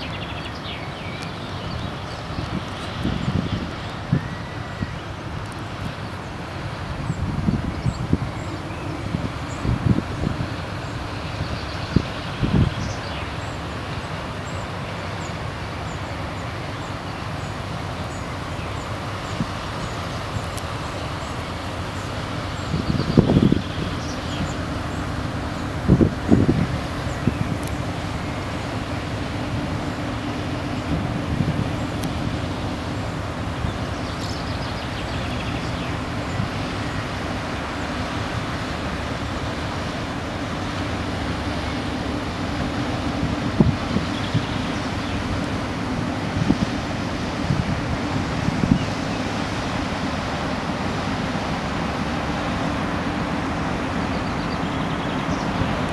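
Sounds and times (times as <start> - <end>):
steady low rumble: 0.0 - 55.9
wind buffeting microphone: 1.4 - 14.8, 17.4 - 55.9.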